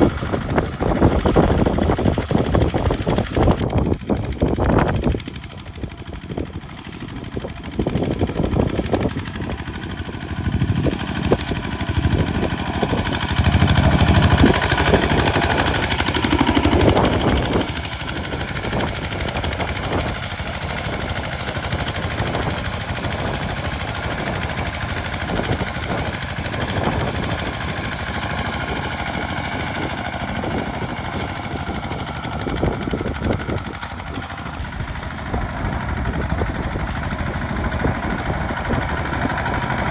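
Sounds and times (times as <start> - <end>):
diesel tractor engine chugging: 0.0 - 39.9.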